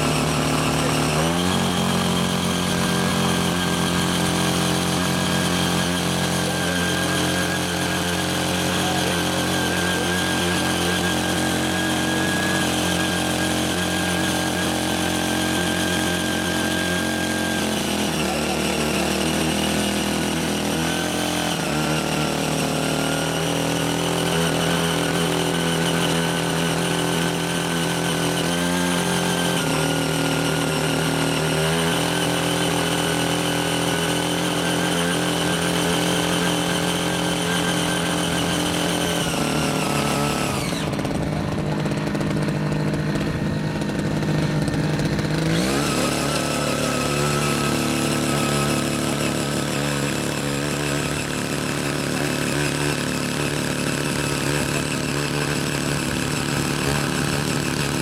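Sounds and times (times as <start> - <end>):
small petrol engine running: 0.0 - 58.0
tiller tines digging soil: 0.0 - 58.0.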